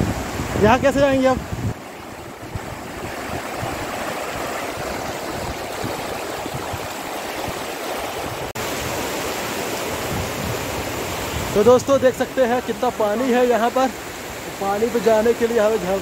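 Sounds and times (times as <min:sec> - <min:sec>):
stream and waterfall rushing: 0:00.0 - 0:16.0.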